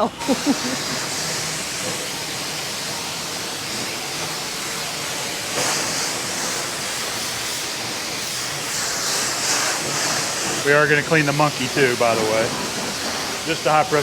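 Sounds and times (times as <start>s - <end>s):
pressure washer spray hissing: 0.0s - 14.0s.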